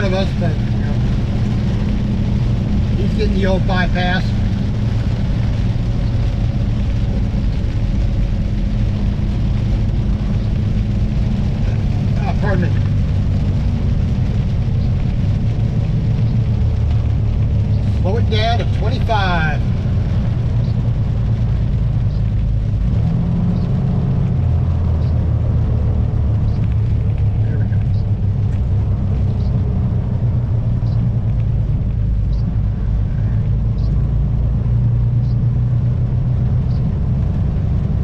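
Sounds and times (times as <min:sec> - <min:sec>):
diesel truck engine droning: 0:00.0 - 0:38.0.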